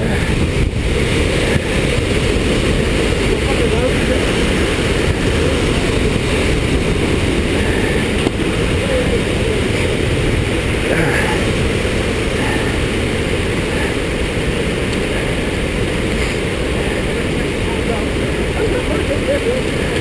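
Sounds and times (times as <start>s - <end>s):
waterfall rushing water: 0.0s - 20.0s.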